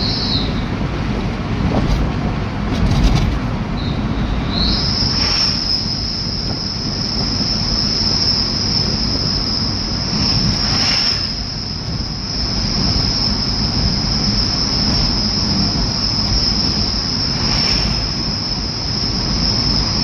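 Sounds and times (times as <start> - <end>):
car driving on rough road: 0.0 - 20.0
high-pitched whine: 3.7 - 20.0.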